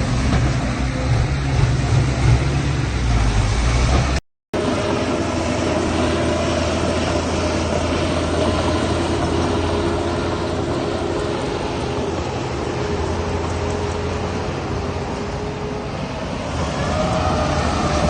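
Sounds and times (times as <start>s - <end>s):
diesel machinery engine running: 0.0s - 18.0s.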